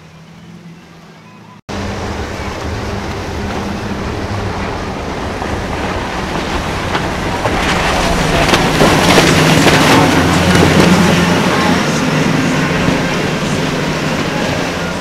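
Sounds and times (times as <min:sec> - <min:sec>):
outboard motors droning: 0:00.0 - 0:15.0
spray and wake slapping hull: 0:00.0 - 0:15.0
water rushing: 0:00.0 - 0:15.0.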